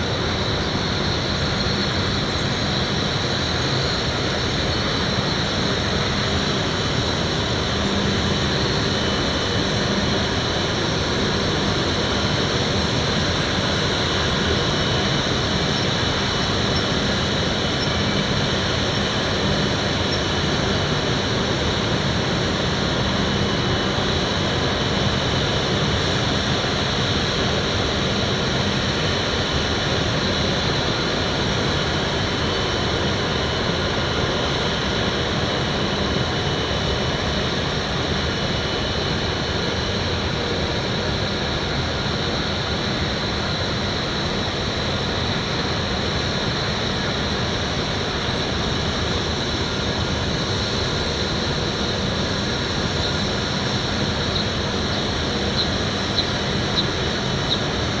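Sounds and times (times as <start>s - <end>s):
high-pitched whine: 0.0s - 58.0s
train mechanical drone and hiss: 0.0s - 58.0s.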